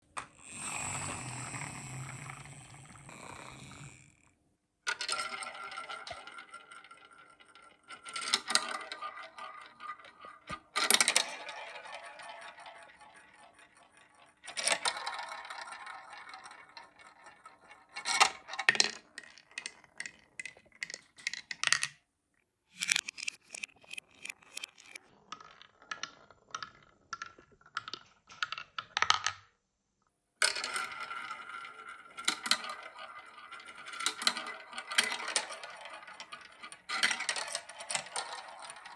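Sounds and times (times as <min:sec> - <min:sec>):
marbles clicking on plastic bricks: 0:00.2 - 0:04.0, 0:04.9 - 0:22.0, 0:22.8 - 0:29.5, 0:30.4 - 0:38.9
marbles rolling and rattling: 0:00.4 - 0:04.1, 0:04.9 - 0:22.0, 0:22.8 - 0:29.4, 0:30.4 - 0:38.9.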